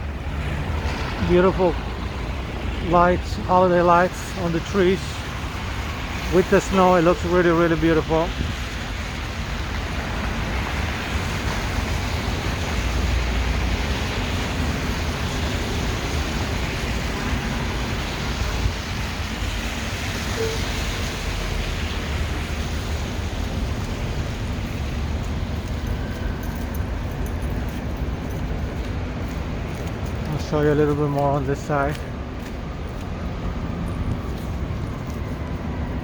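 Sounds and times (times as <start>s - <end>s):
cars passing: 0.0s - 36.0s.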